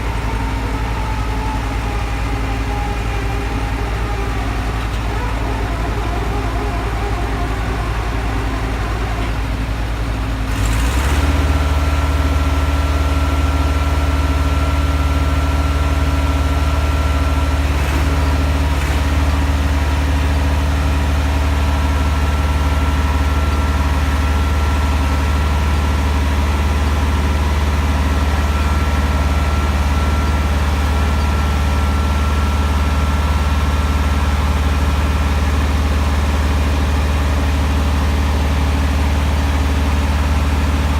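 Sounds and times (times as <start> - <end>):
heavy engine droning: 0.0 - 40.9.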